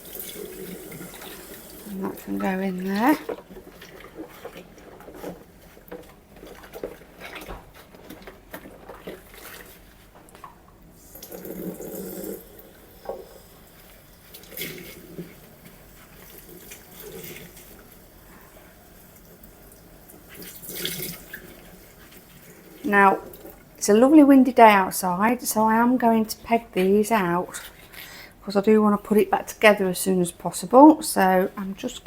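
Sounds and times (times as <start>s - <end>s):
water sloshing in a sink: 0.0s - 32.0s.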